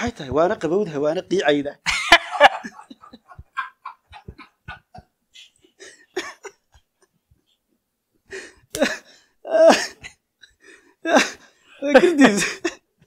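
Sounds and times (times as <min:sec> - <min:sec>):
men laughing breathily: 0:01.9 - 0:12.9.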